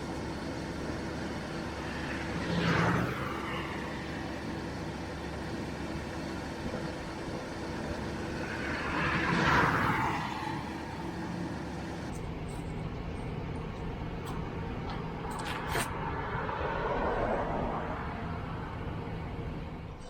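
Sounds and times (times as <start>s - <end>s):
low engine hum: 0.0s - 20.0s
vehicles passing by: 0.0s - 20.0s.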